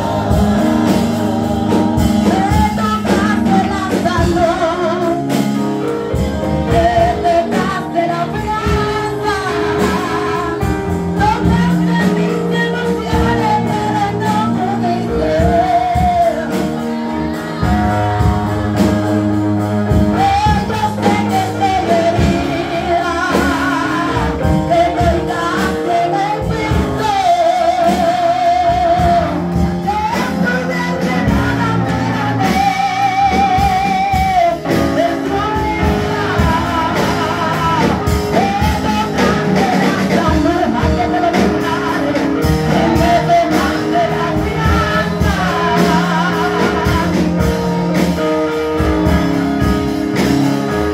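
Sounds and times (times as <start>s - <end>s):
woman singing with vibrato: 0.0s - 5.7s, 6.5s - 47.8s
instrumental accompaniment: 0.0s - 50.9s.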